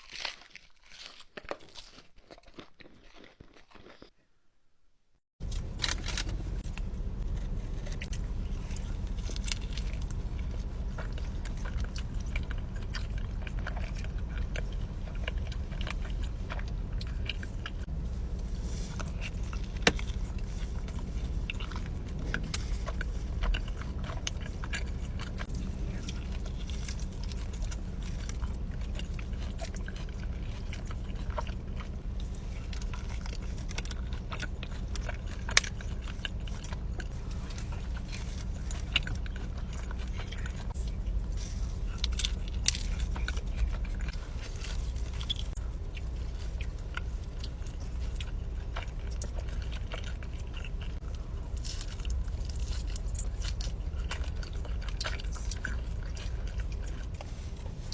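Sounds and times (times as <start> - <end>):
person biting and chewing food: 0.0 - 4.3, 5.4 - 57.9
steady low rumble: 5.4 - 57.9.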